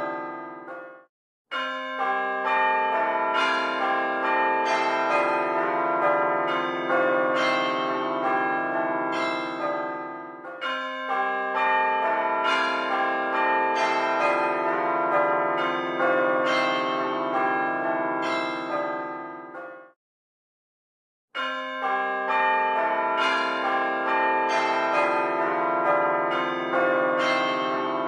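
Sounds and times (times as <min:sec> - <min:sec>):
church bells ringing a peal: 0:00.0 - 0:20.0, 0:21.4 - 0:28.0.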